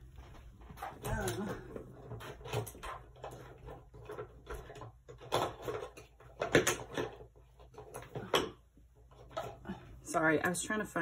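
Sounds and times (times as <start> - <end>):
rummaging through desk supplies: 0.0 - 10.0.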